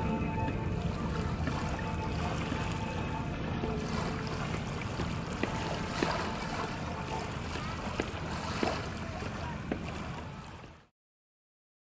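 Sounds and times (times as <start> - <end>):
faint music: 0.0 - 10.9
small waves at shoreline: 0.0 - 10.9.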